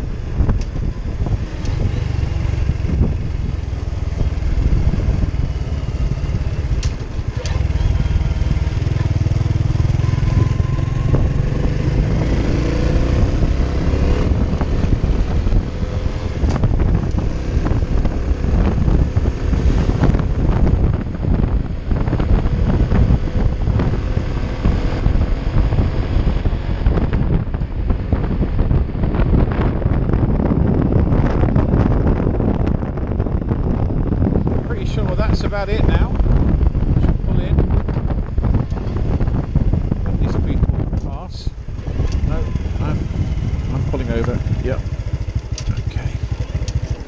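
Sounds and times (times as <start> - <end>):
motorcycle engine running: 0.0 - 47.0
wind buffeting microphone: 0.0 - 47.0.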